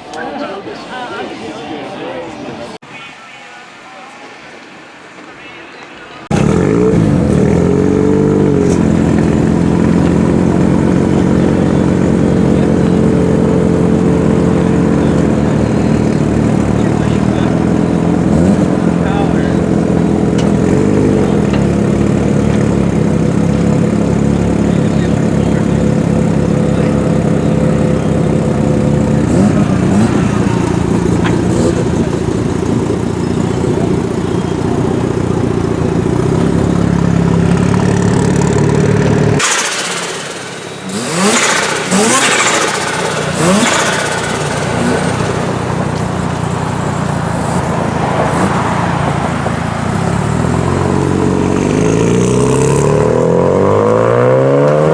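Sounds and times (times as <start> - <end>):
engine revving: 6.3 - 54.9
engine rumbling at low revs: 6.3 - 54.9.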